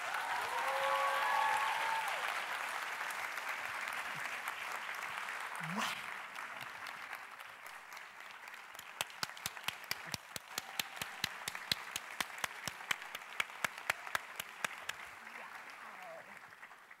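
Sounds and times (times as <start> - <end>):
audience applause: 0.0 - 17.0
sharp hand claps: 0.0 - 17.0.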